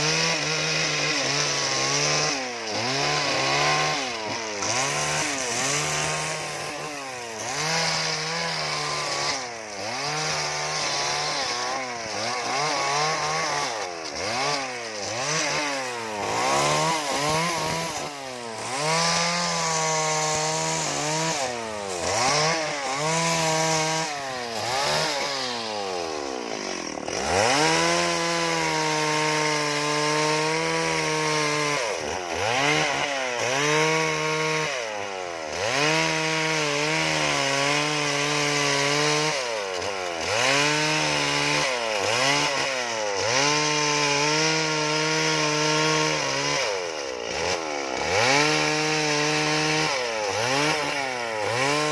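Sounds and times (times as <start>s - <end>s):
chainsaw cutting wood revving: 0.0s - 51.9s.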